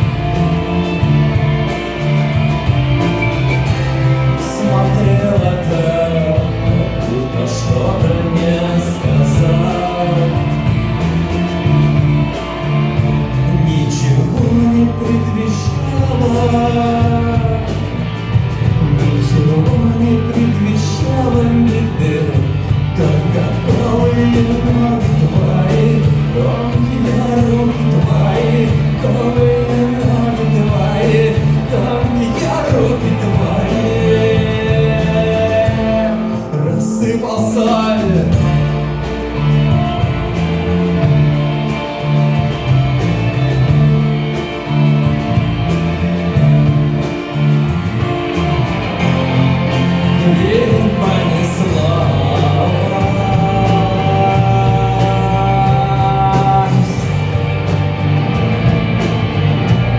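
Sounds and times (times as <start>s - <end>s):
person singing with rock band: 0.0s - 59.9s.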